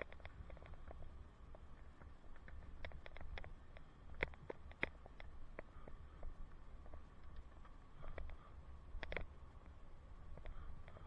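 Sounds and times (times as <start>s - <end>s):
light clicks and rattles: 0.0s - 8.4s, 9.0s - 11.0s
bicycle riding rumble: 0.0s - 11.0s.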